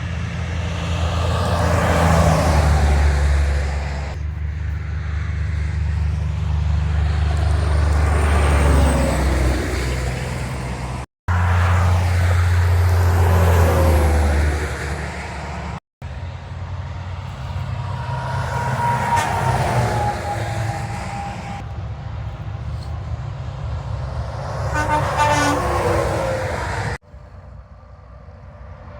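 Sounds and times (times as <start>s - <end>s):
diesel engine rumble: 0.0s - 28.9s
trucks passing: 0.0s - 28.9s
tyre noise on road: 0.0s - 28.9s.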